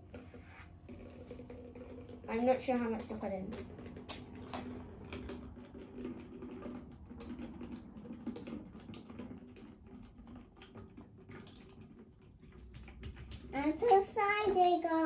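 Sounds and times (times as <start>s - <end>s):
liquid trickling into plastic bottle: 0.0s - 15.0s.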